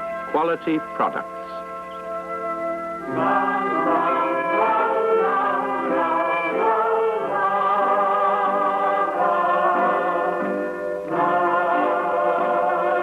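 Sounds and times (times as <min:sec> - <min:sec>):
orchestral chords with choir voices: 0:00.0 - 0:13.0.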